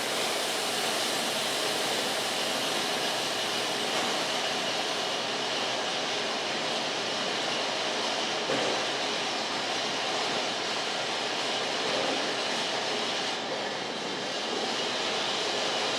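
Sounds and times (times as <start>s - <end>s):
band sawmill running: 0.0s - 15.9s.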